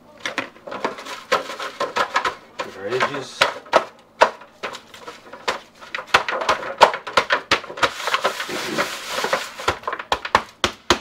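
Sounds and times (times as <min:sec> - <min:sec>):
aluminium foil pan crinkling: 0:00.2 - 0:10.5.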